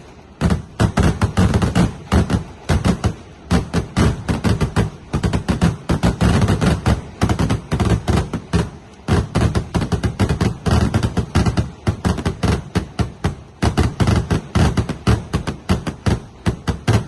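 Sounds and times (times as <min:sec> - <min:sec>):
firecrackers exploding: 0:00.0 - 0:17.0.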